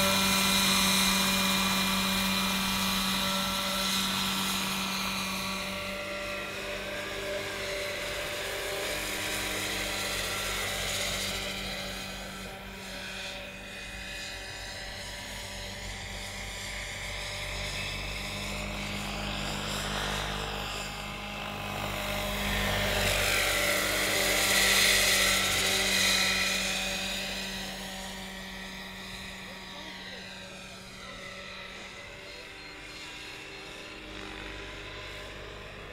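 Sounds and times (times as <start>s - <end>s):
electric motor whine: 0.0s - 35.9s
helicopter rotor whirring: 0.0s - 35.9s.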